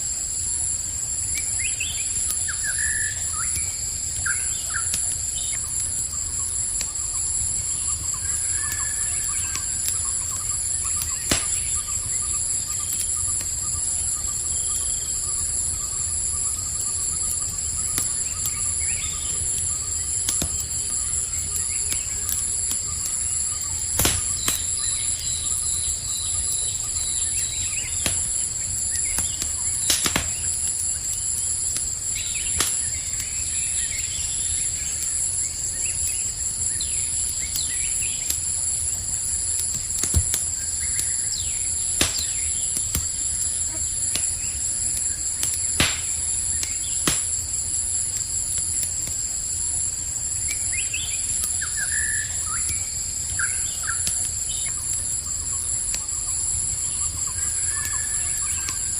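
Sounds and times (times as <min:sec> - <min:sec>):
campfire crackling: 0:00.0 - 0:58.9
crickets chirping: 0:00.0 - 0:58.9.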